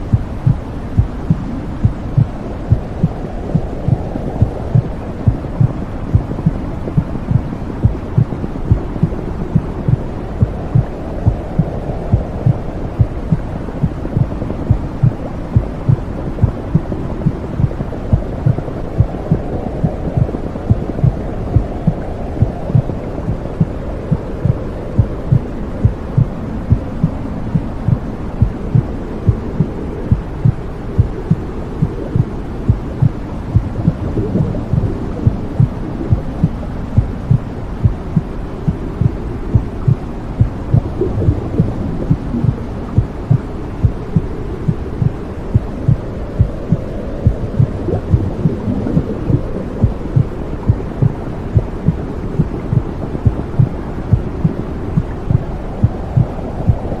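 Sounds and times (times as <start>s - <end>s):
low whooshing rush: 0.0s - 57.0s
muffled heartbeat thumping: 0.0s - 57.0s.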